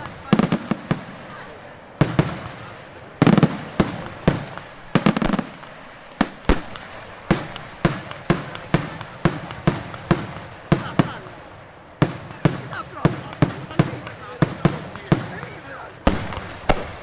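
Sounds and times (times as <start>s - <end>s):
loud sharp firework bangs: 0.0s - 17.0s.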